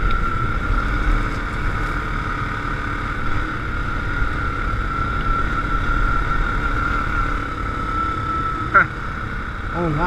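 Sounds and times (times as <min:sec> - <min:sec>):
atv engine running: 0:00.0 - 0:10.0
steady high whine: 0:00.0 - 0:10.0.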